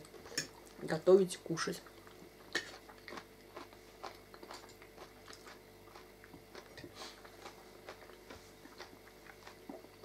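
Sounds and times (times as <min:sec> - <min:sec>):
steady low hum: 0:00.0 - 0:10.0
people chewing: 0:01.8 - 0:10.0.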